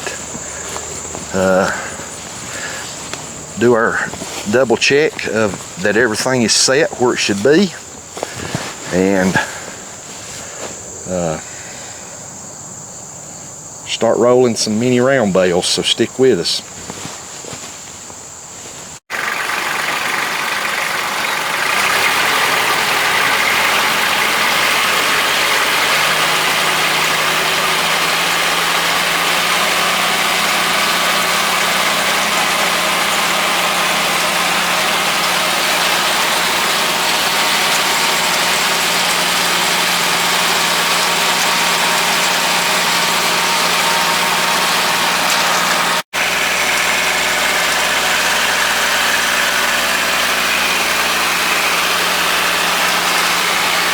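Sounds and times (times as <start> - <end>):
tractor diesel engine running: 0.0 - 12.8, 13.8 - 53.9.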